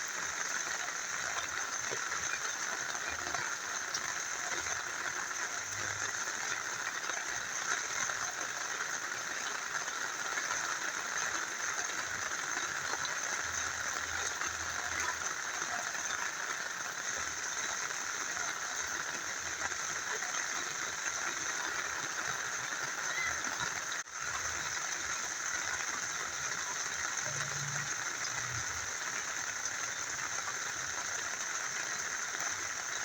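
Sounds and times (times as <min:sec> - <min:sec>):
small river flowing: 0:00.0 - 0:33.0
steady rain falling: 0:00.0 - 0:33.0.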